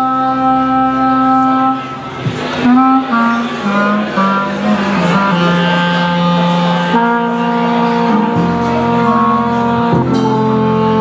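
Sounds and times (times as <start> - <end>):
swing jazz band playing: 0.0 - 11.0.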